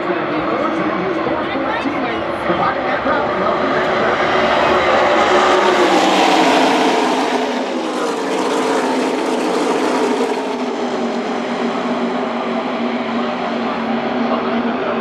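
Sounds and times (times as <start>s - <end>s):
racing trucks passing by: 0.1s - 15.0s.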